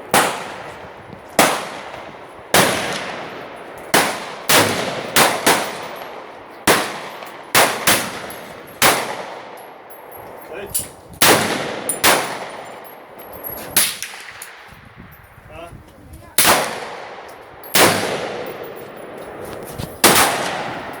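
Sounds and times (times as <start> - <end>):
rifle shots echoing: 0.0 - 9.9, 11.2 - 13.2, 13.8 - 14.7, 16.4 - 19.4, 20.0 - 21.0.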